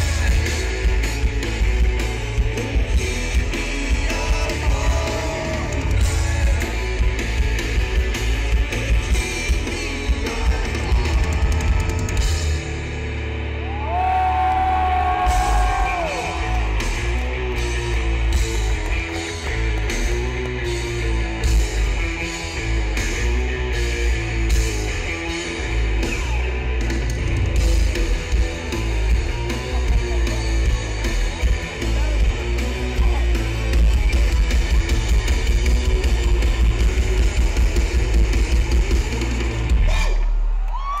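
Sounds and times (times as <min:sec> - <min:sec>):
drum kit: 0:00.0 - 0:41.0
electric guitars: 0:00.0 - 0:41.0.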